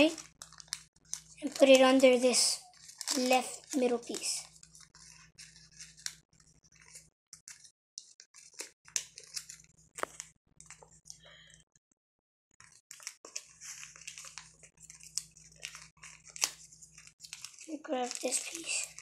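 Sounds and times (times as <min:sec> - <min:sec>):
paper rustling and crinkling: 0:00.0 - 0:10.9, 0:12.6 - 0:19.0.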